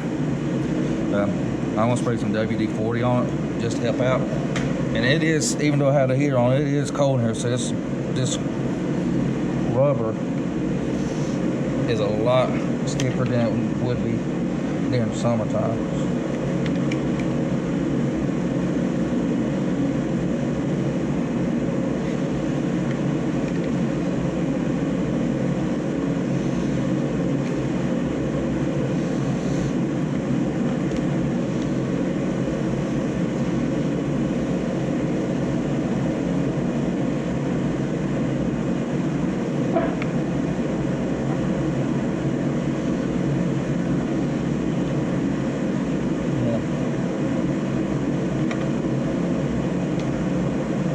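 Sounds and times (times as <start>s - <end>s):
heater rumble and hum: 0.0s - 50.9s.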